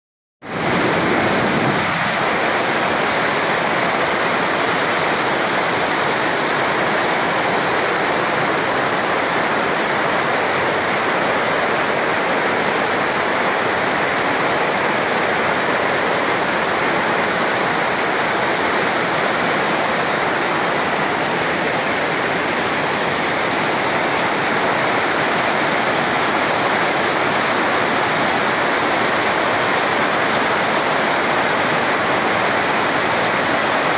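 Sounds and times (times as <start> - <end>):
river rushing through rapids: 0.5 - 33.9.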